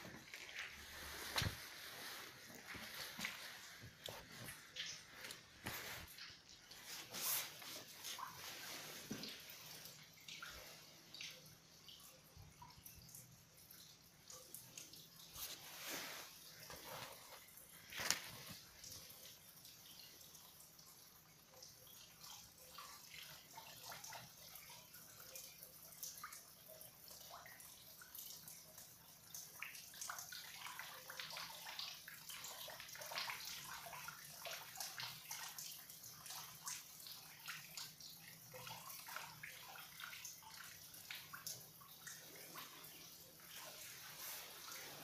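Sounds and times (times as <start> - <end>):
water dripping and splashing: 0.0 - 45.0.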